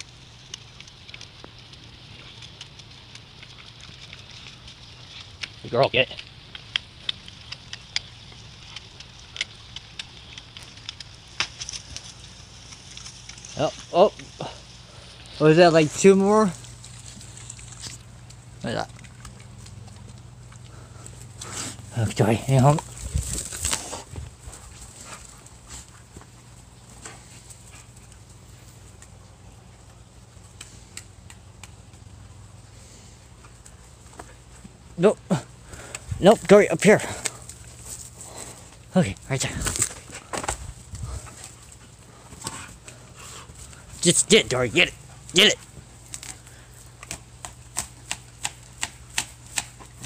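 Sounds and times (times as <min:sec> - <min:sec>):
dog chewing rope: 0:00.0 - 0:32.1, 0:39.6 - 0:50.0
low steady hum: 0:00.0 - 0:50.0.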